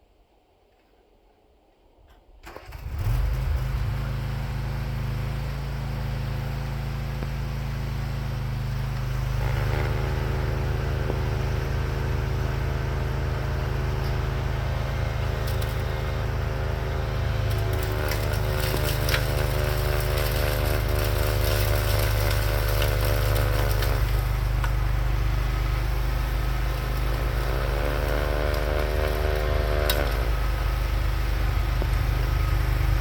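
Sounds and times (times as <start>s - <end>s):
lawn tractor engine running: 2.5s - 33.0s.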